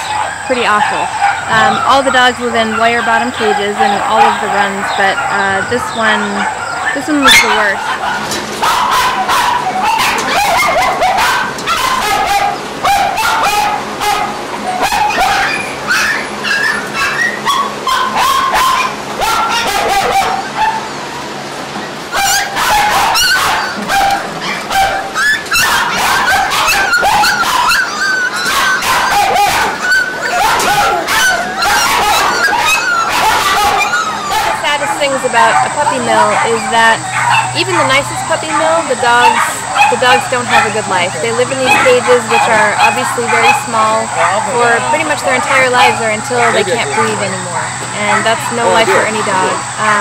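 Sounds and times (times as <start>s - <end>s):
dogs barking and whimpering: 0.0s - 50.0s.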